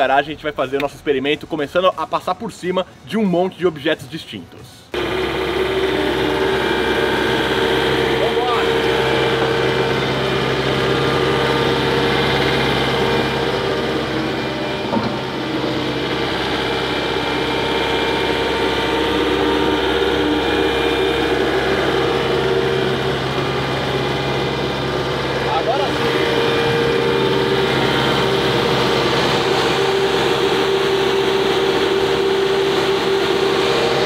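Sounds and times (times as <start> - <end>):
road roller diesel engine: 4.9 - 34.0.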